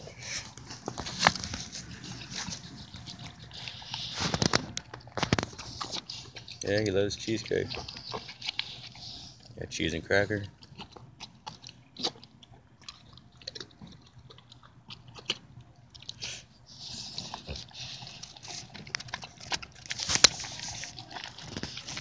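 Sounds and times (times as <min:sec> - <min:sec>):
dog chewing wet food: 0:00.0 - 0:22.0.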